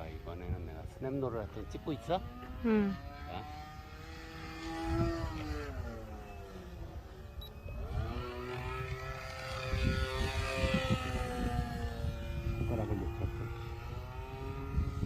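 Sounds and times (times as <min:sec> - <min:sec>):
model airplane engine in flight: 0:00.0 - 0:15.0.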